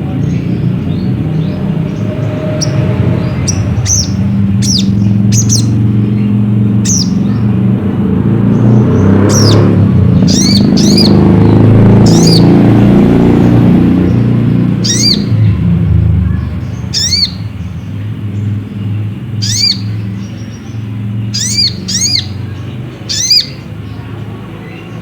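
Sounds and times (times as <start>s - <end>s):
loud low rumble: 0.0s - 23.0s
bird chirping: 0.0s - 25.0s.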